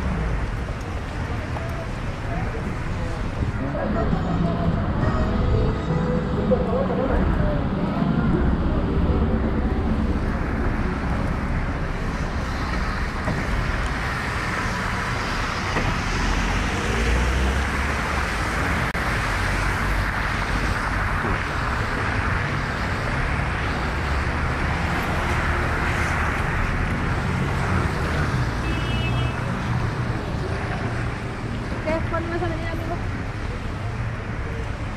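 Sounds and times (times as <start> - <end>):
low rumble of engines: 0.0 - 34.9.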